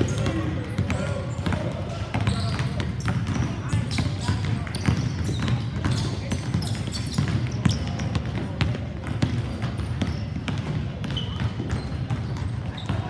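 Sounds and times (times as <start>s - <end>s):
basketballs bouncing on wood floor: 0.0s - 13.0s.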